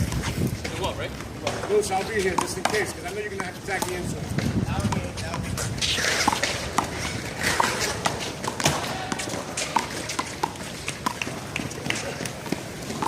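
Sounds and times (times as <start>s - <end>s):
running footsteps: 0.0s - 13.0s
ball slapping wall and ground: 1.4s - 13.0s.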